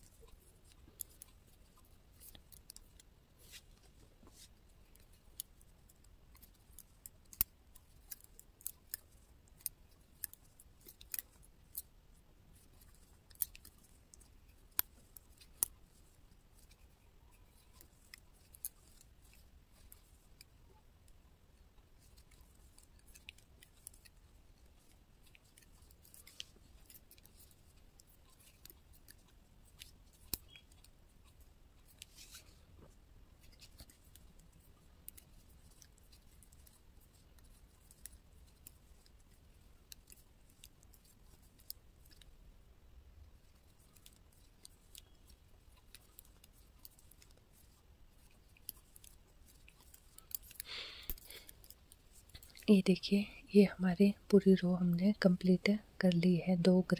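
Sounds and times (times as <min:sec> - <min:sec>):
knitting needles clicking: 0:00.0 - 0:03.6, 0:04.4 - 0:42.5, 0:43.2 - 0:56.9.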